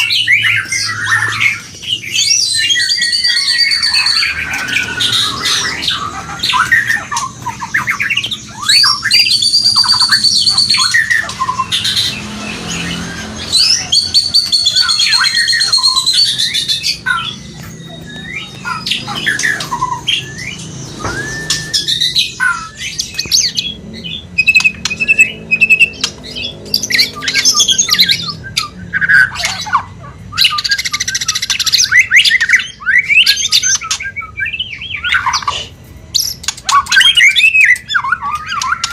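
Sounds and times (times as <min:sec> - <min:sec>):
bird squawks trills and whistles: 0:00.0 - 0:38.9.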